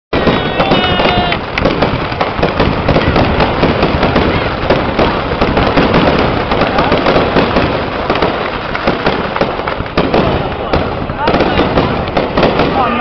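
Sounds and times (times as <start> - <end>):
fireworks cracking and banging: 0.1 - 13.0.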